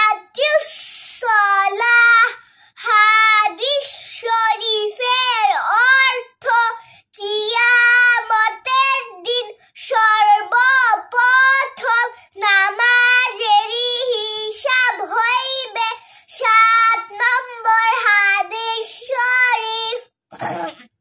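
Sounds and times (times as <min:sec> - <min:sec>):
girl singing a chant: 0:00.0 - 0:20.6.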